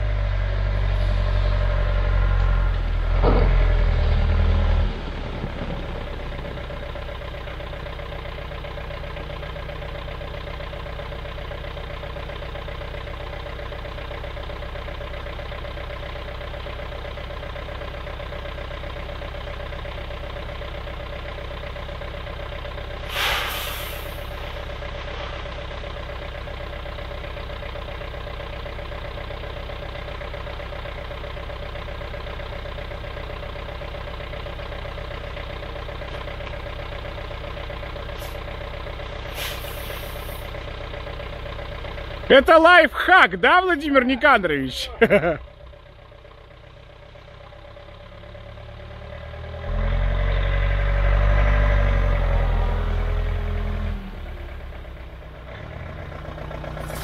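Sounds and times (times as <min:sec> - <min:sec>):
atv engine idling: 0:05.2 - 0:49.4, 0:54.2 - 0:57.0.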